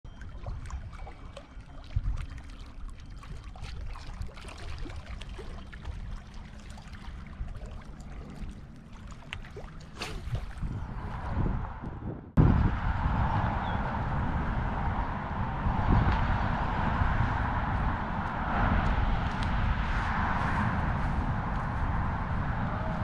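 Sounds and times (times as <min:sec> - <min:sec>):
wind rumble on microphone: 0:00.1 - 0:23.0.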